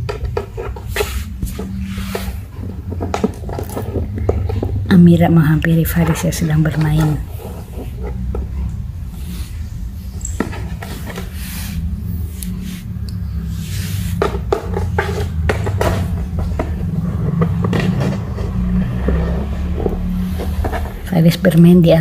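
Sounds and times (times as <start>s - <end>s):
kittens scratching cardboard: 0.0s - 4.6s, 5.6s - 21.1s
steady low rumble: 0.0s - 22.0s.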